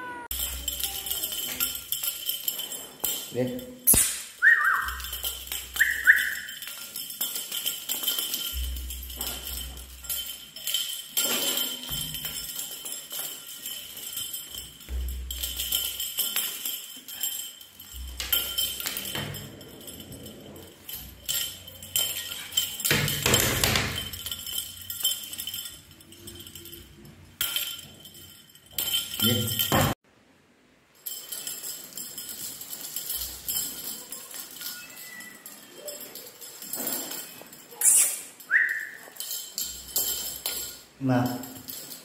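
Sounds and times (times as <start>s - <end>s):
jingling percussion: 0.0s - 30.0s, 30.9s - 42.0s.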